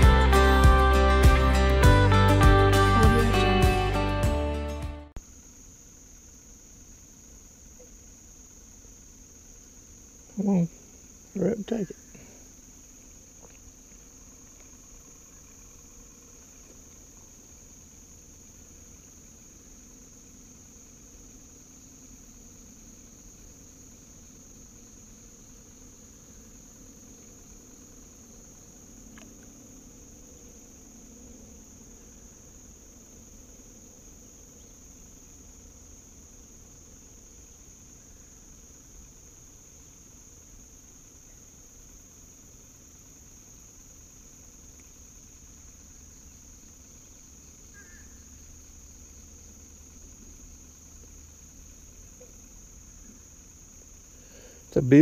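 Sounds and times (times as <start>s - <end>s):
insects calling: 0.0s - 55.0s.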